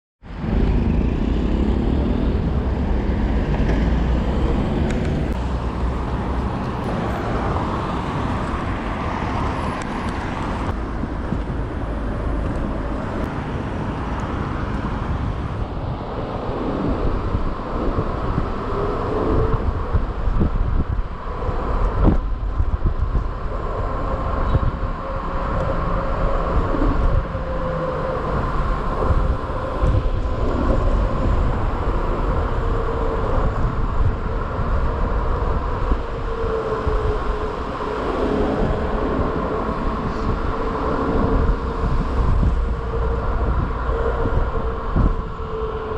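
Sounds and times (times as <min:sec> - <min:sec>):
road noise: 0:00.2 - 0:45.9
vehicles passing: 0:00.2 - 0:45.9
wind over microphone: 0:00.2 - 0:45.9.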